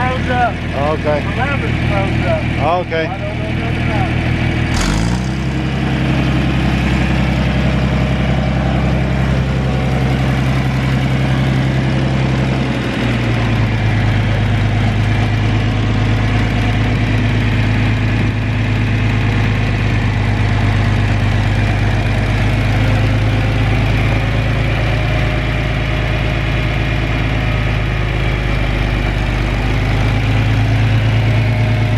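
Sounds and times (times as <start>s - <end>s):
tractor engine idling: 0.0s - 31.9s.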